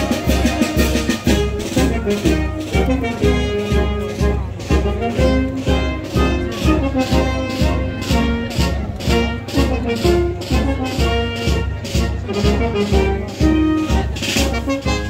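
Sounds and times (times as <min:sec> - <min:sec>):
brass band music: 0:00.0 - 0:15.0.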